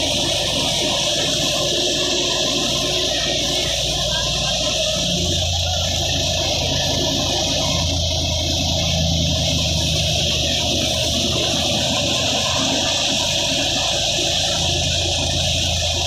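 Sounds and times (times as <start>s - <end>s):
grain thresher whooshing: 0.0s - 16.0s
tractor engine hum: 0.0s - 16.0s.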